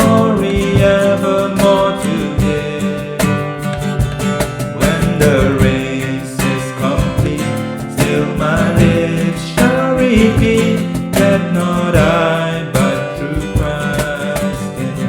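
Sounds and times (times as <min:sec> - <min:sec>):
guitar-led worship music: 0:00.0 - 0:15.0
person singing: 0:00.0 - 0:15.0.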